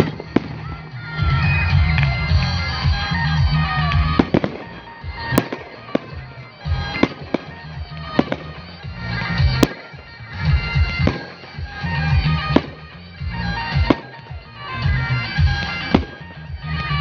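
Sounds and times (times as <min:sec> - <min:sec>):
fireworks bangs: 0:00.0 - 0:17.0
music playing: 0:00.0 - 0:17.0.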